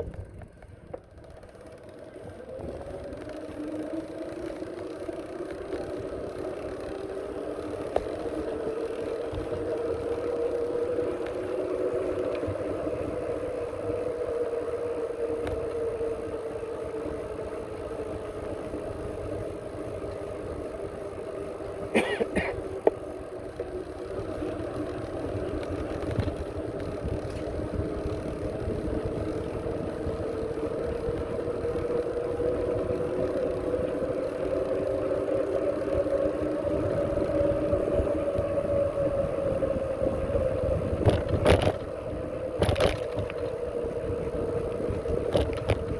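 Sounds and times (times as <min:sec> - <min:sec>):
bicycle riding hum: 0:00.0 - 0:45.9
low wind rumble: 0:00.0 - 0:45.9.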